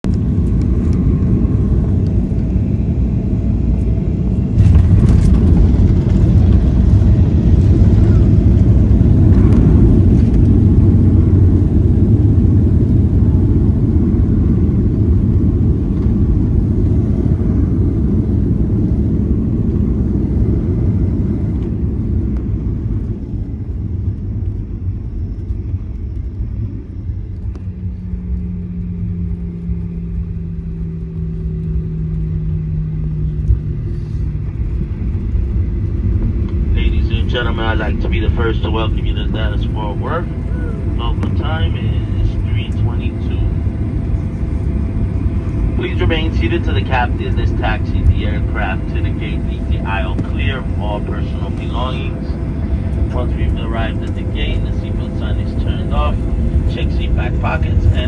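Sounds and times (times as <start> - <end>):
airliner cabin roar: 0.0 - 58.0
steady low hum: 0.1 - 58.0.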